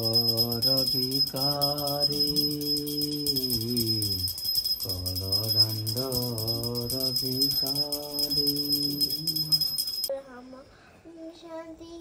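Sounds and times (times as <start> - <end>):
man singing slow melody: 0.0 - 9.8
jingling small bells: 0.0 - 10.1.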